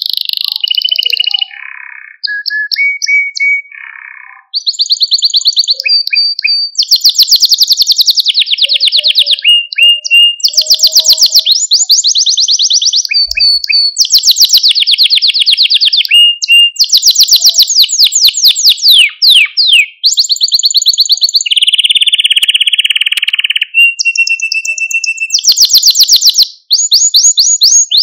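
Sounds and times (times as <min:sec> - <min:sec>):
canary singing trills: 0:00.0 - 0:28.0.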